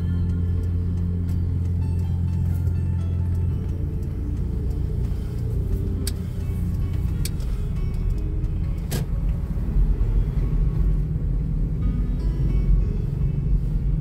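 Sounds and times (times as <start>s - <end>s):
car engine and tyres rumbling: 0.0s - 14.0s
music playing: 0.0s - 14.0s.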